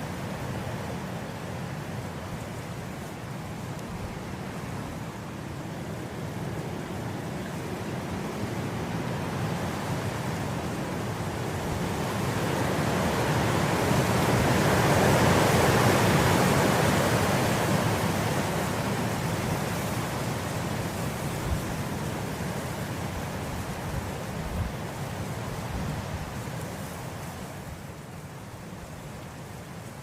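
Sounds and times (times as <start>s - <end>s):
wind blowing through grass: 0.0s - 30.0s.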